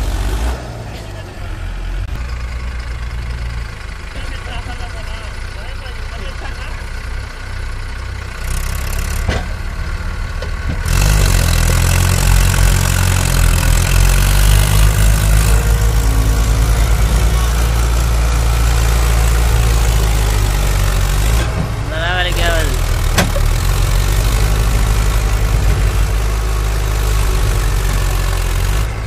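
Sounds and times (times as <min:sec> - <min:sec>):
tractor diesel engine working hard: 0:00.0 - 0:29.0.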